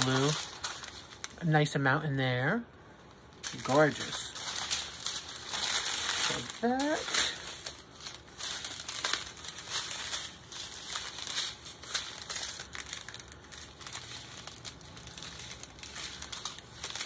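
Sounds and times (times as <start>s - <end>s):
plastic bags crinkling: 0.0s - 1.8s, 2.9s - 17.0s.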